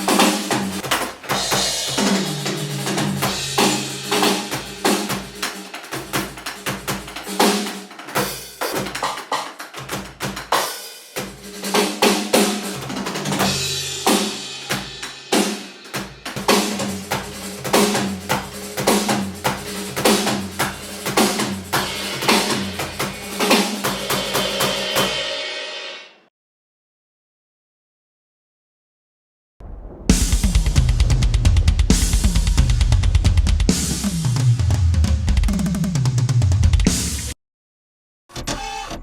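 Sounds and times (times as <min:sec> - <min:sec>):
electronic drum kit groove: 0:00.0 - 0:25.5, 0:30.1 - 0:37.4.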